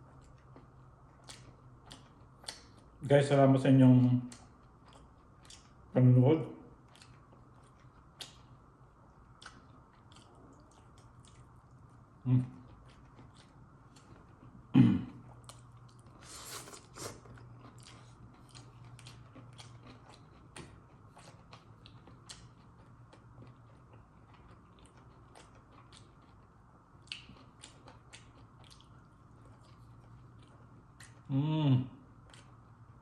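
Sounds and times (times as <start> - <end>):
wet chewing and mouth clicks: 0.0 - 2.9, 4.3 - 5.9, 6.8 - 14.6, 15.3 - 31.3, 32.2 - 32.9.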